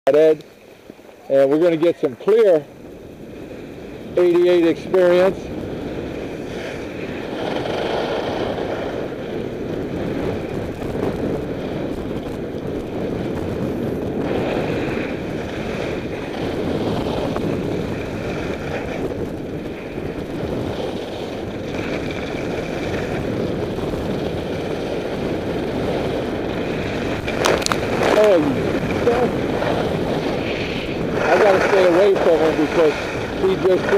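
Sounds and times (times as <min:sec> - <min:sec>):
wind rushing over microphone: 0:00.1 - 0:33.9
skis sliding on hard snow: 0:04.2 - 0:33.9.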